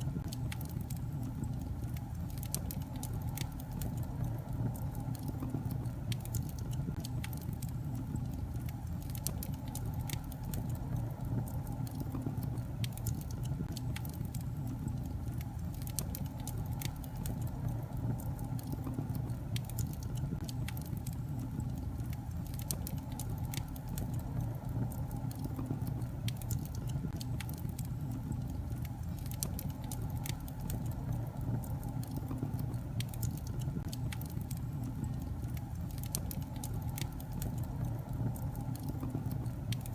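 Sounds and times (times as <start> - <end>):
burning logs popping and snapping: 0.0 - 39.9
low rumble of flames: 0.0 - 39.9.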